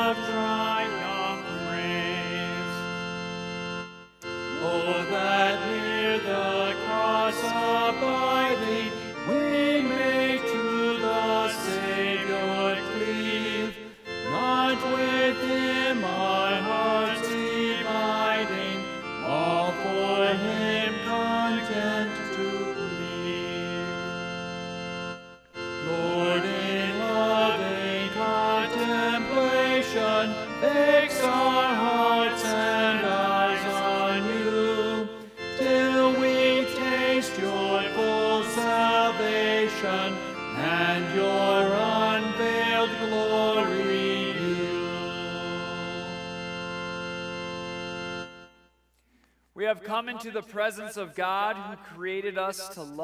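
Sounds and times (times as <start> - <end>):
voices singing: 0.0 - 2.9, 4.5 - 24.2, 25.8 - 46.4
organ playing a hymn: 0.0 - 53.0.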